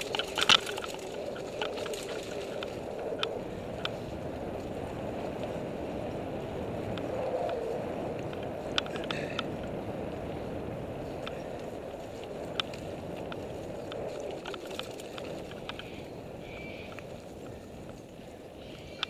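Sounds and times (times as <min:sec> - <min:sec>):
bike tyres rushing on dirt: 0:00.0 - 0:19.0
stones and bike rattling: 0:00.0 - 0:19.0
wind on microphone: 0:00.0 - 0:19.0.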